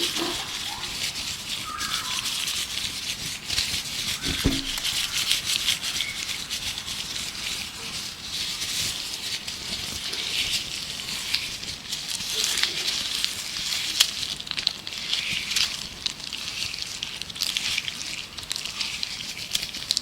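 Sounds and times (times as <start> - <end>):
gloved hands rubbing and crinkling: 0.0 - 20.0.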